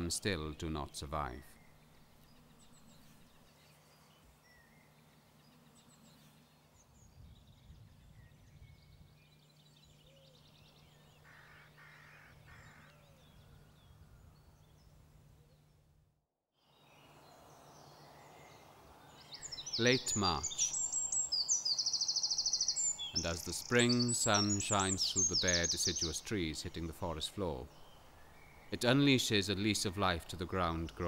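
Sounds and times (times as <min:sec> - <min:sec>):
faint songbird chirps: 0:00.0 - 0:16.0, 0:16.6 - 0:31.0.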